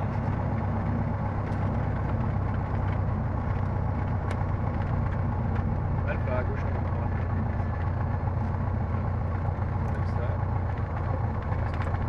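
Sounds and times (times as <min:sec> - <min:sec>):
light aircraft engine running: 0:00.0 - 0:12.0.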